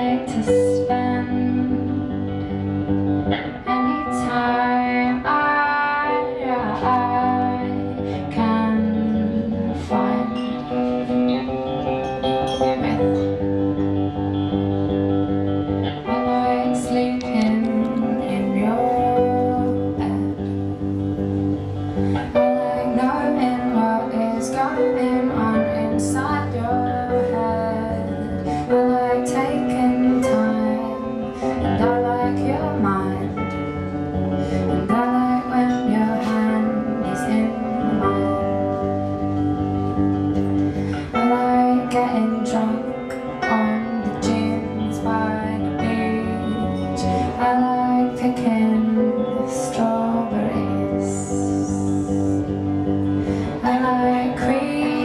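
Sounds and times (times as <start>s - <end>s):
woman singing: 0.0s - 11.2s, 16.0s - 39.4s, 40.4s - 55.0s
strummed guitar: 0.0s - 55.0s.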